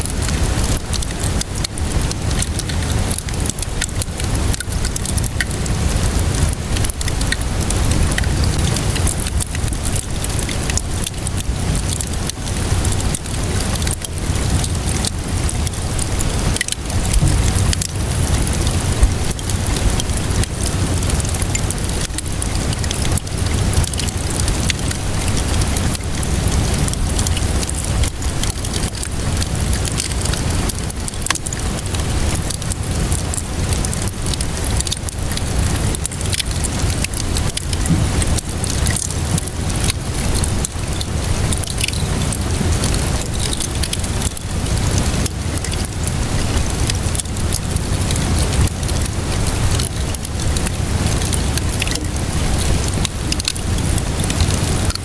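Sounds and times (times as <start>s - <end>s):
steady rainfall: 0.0s - 55.0s
wood fire crackling and popping: 0.0s - 55.0s.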